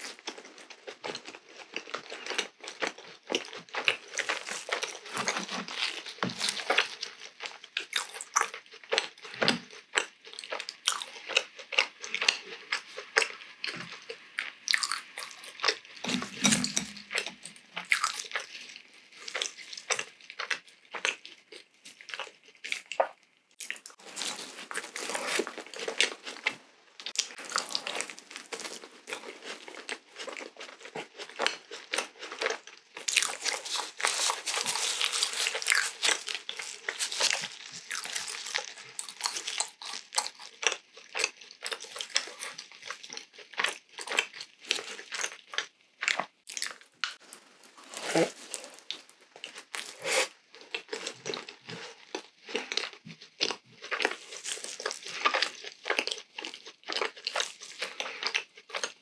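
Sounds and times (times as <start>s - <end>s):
person chewing wet smacks: 0.2s - 24.1s, 24.7s - 47.2s, 48.8s - 59.0s.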